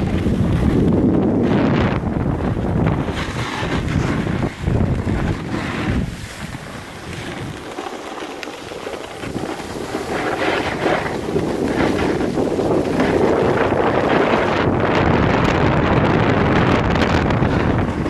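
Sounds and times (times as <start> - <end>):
skis sliding on snow: 0.0 - 18.0
wind buffeting microphone: 0.0 - 18.0.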